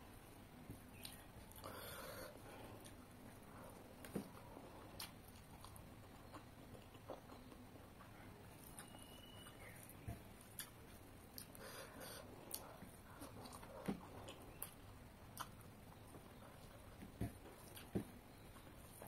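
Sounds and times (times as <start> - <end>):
person chewing food: 0.9 - 19.0.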